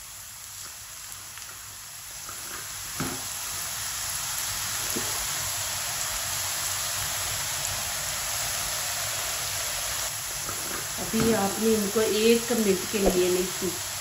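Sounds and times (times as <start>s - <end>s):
okra deep-frying in hot oil: 0.0s - 14.0s.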